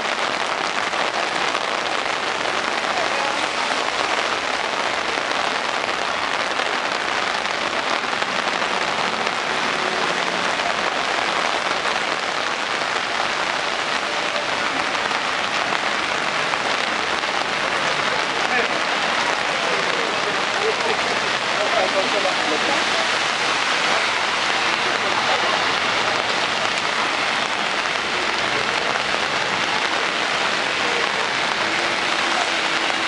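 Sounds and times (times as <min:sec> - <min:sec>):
heavy rain on pavement: 0:00.0 - 0:33.0.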